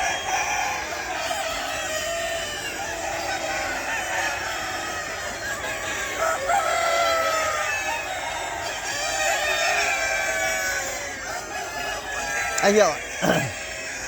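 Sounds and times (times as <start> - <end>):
chickens clucking: 0.0 - 14.0
roosters crowing: 0.0 - 14.0.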